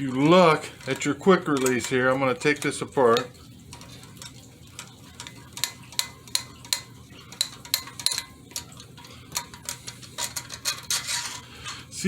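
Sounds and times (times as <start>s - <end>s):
metallic clicks and clinks: 0.0s - 11.4s.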